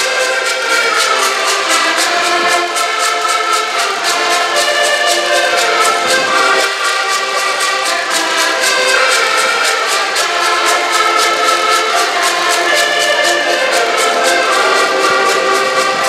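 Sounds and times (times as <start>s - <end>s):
accordions playing together: 0.0s - 16.0s.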